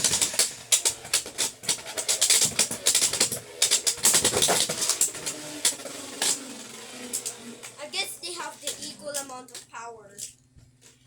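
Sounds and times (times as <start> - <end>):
spinning tops clattering and scraping: 0.0 - 10.3.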